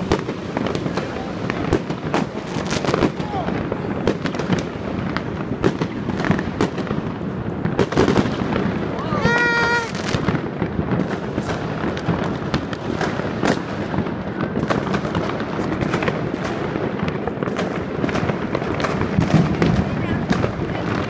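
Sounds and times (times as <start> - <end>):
fireworks and firecrackers banging: 0.0 - 21.0.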